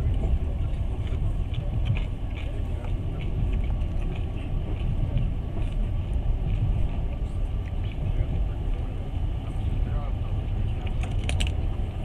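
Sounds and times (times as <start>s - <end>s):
train carriage rumbling on rails: 0.0s - 12.0s.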